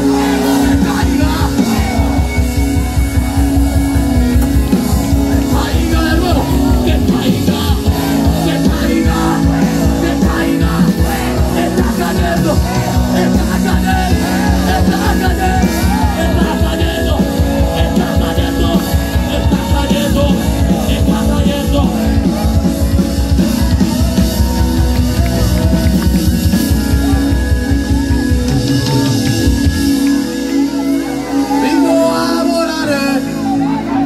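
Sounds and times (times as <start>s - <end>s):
drums steady beat: 0.0s - 31.7s
electric guitar: 0.0s - 34.0s
keyboard: 0.0s - 34.0s.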